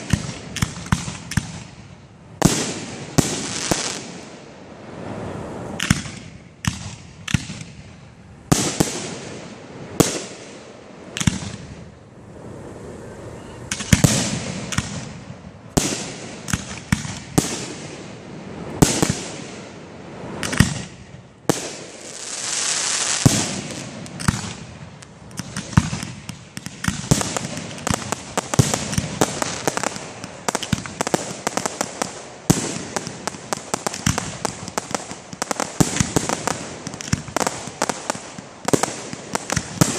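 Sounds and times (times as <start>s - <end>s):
fireworks hissing rush: 0.0s - 6.3s, 8.3s - 39.9s
fireworks bangs: 0.0s - 39.9s
fireworks crackling and popping: 0.0s - 39.9s.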